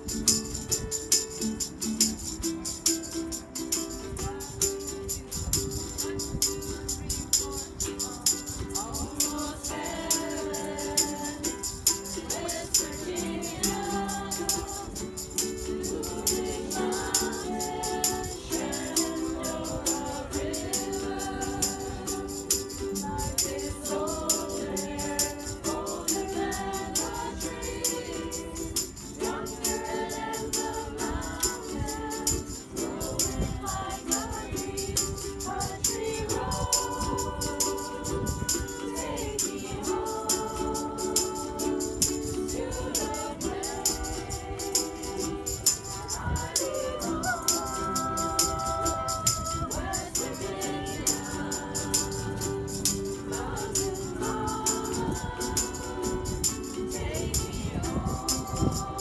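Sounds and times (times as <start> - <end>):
hand percussion beat: 0.0 - 59.0
ukuleles strumming chords: 0.0 - 59.0
group singing: 3.7 - 5.2, 7.1 - 59.0.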